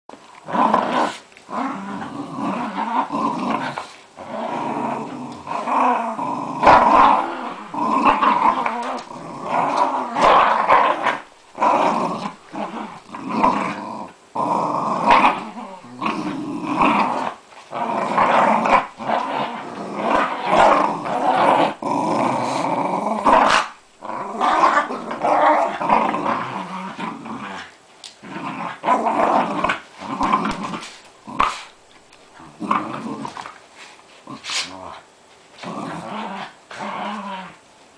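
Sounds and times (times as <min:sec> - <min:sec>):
dogs play-growling: 0:00.4 - 0:37.6.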